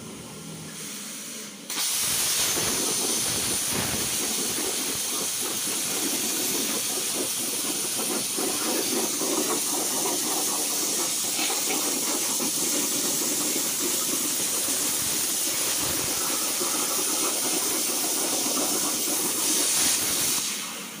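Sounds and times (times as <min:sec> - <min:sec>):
plasma torch hissing: 0:00.7 - 0:21.0.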